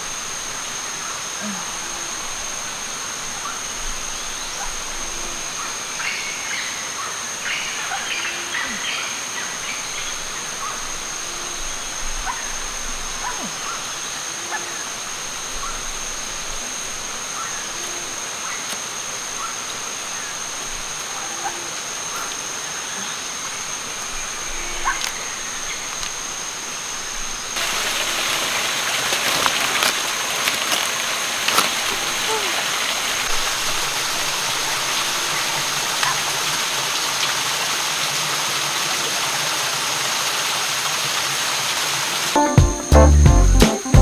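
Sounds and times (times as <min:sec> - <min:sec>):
stream water rushing: 0:00.0 - 0:42.4
high insect hum: 0:00.0 - 0:44.0.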